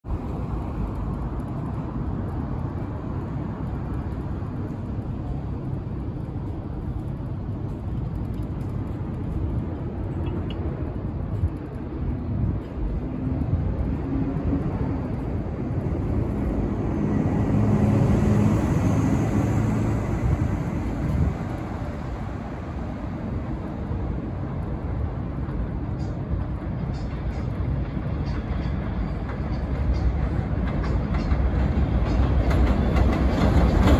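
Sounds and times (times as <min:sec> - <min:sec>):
street traffic: 0:00.0 - 0:33.9.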